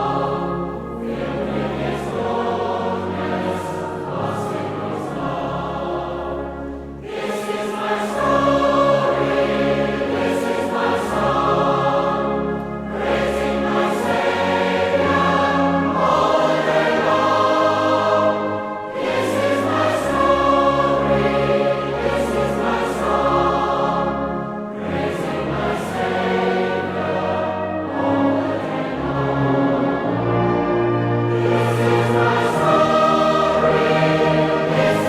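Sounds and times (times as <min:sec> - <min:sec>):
choir singing a hymn: 0:00.0 - 0:35.0
instrumental accompaniment: 0:00.0 - 0:35.0.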